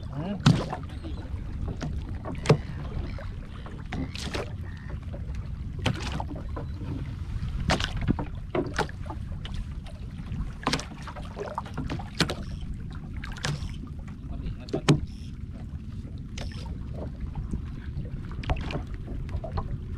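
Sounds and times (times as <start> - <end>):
water splashing against boat: 0.0 - 19.9
wind rumble on microphone: 0.0 - 19.9.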